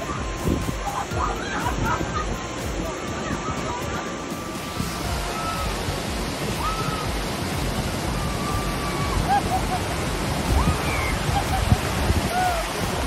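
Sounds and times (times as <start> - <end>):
water rushing down slide: 0.0 - 13.0.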